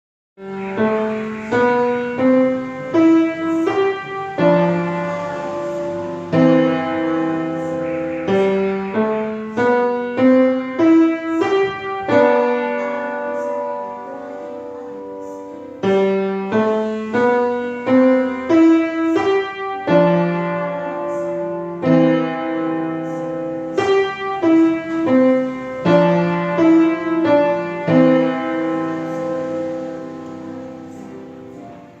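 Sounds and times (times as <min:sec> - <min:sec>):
solo piano melody: 0:00.4 - 0:32.0.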